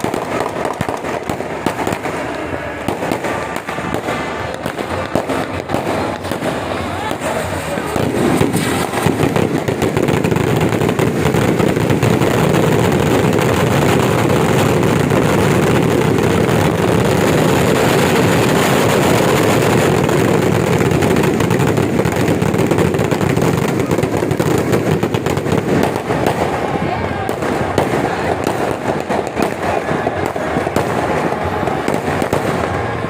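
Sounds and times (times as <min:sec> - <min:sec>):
firecrackers crackling: 0:00.0 - 0:33.0.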